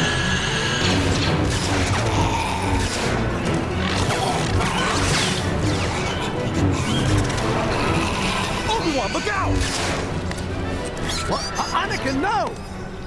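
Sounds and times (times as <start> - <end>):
action music: 0.0 - 13.0.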